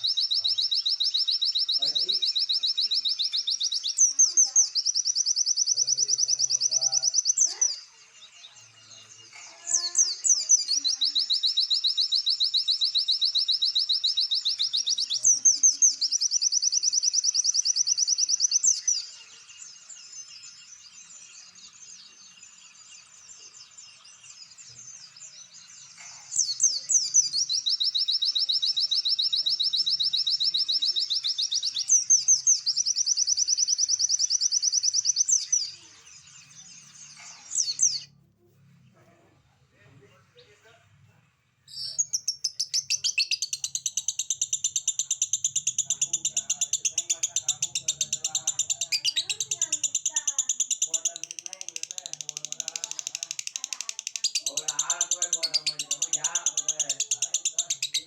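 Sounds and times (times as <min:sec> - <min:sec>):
songbird trilling and chirping: 0:00.0 - 0:38.1, 0:41.7 - 0:58.0.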